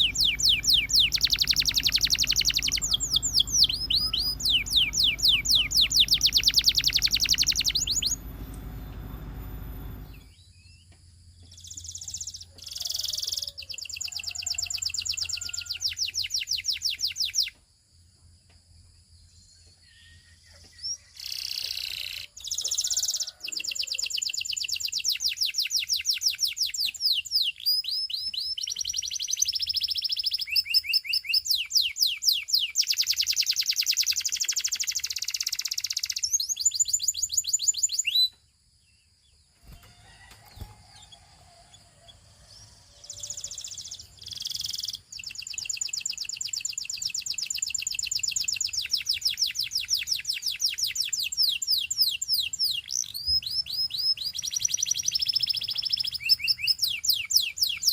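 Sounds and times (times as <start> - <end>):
canary singing in trills: 0.0 - 10.8, 11.5 - 17.5, 19.4 - 38.4, 39.6 - 57.9.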